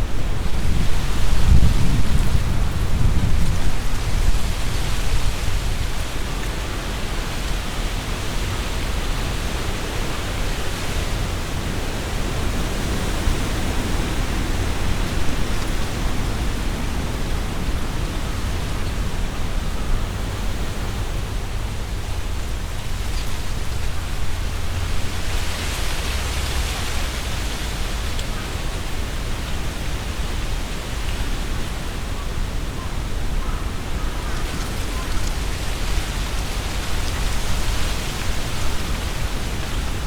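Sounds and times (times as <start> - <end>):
wind rustling leaves: 0.0 - 40.0.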